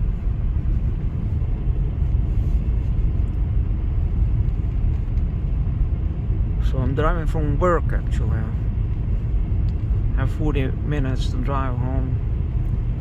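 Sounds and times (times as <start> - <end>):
car engine hum: 0.0 - 13.0
road and tyre noise: 0.0 - 13.0.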